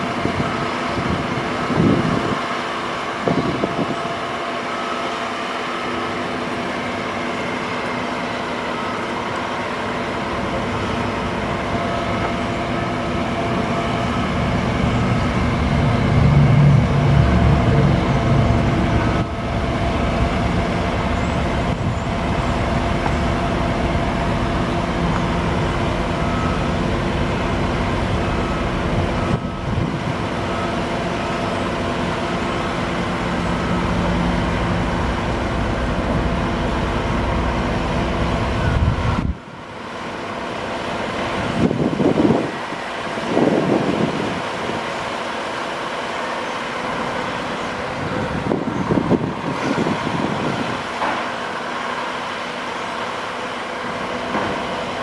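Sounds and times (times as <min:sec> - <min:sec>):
diesel engine running: 0:00.0 - 0:55.0
hydraulic whine: 0:00.0 - 0:55.0.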